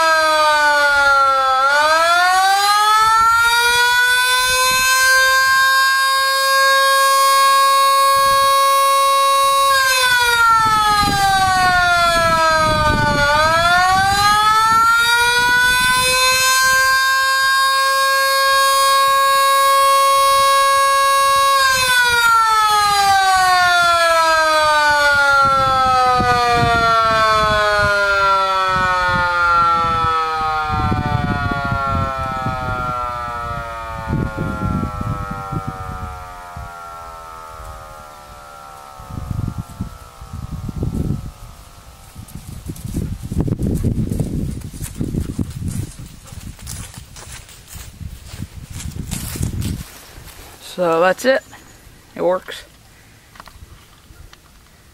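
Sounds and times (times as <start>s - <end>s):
tornado warning siren: 0.0s - 51.4s.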